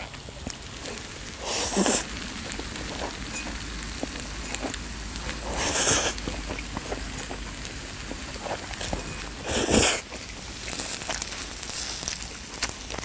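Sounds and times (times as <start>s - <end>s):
noodles slurping: 0.0s - 13.0s
wet chewing clicks: 0.0s - 13.0s.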